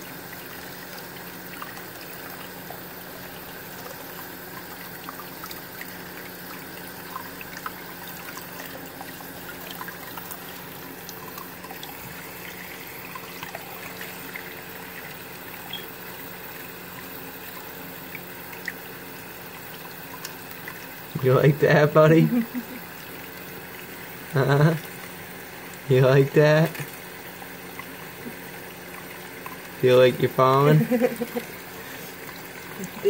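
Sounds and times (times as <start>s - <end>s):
small water splashes and drips: 0.0s - 21.3s, 26.6s - 33.0s
tap water running into tub: 0.0s - 33.0s.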